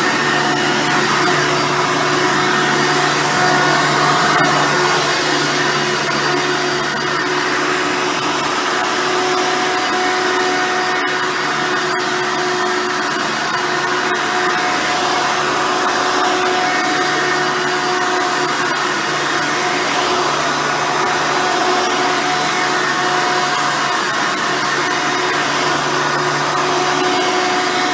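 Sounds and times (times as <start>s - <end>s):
vacuum cleaner motor whine: 0.0s - 27.9s.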